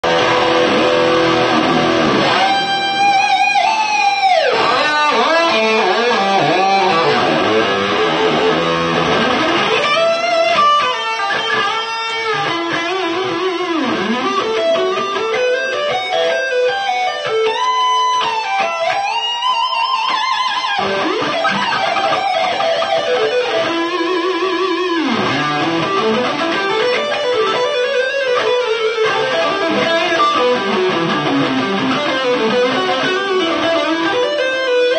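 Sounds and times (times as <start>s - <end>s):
electric guitar lead with bends: 0.0s - 34.9s.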